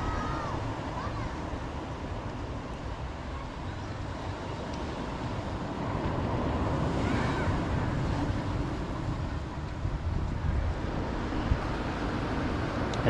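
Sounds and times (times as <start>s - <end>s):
surf on rocky shore: 0.0s - 13.0s
wind rumbling on microphone: 0.0s - 13.0s.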